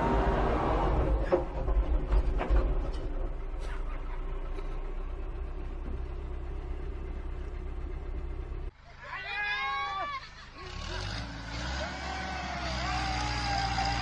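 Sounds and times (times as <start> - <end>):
tractor engine rumbling: 0.0 - 14.0.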